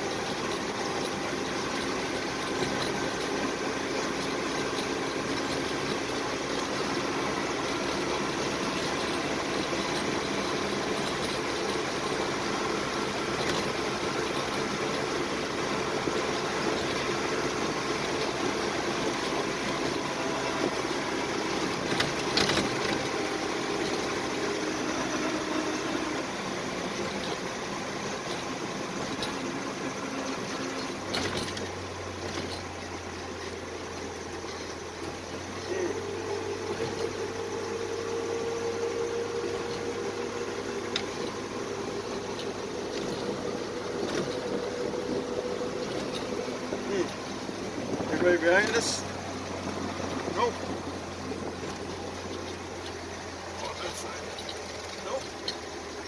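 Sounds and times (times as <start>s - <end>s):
truck engine running: 0.0s - 56.0s.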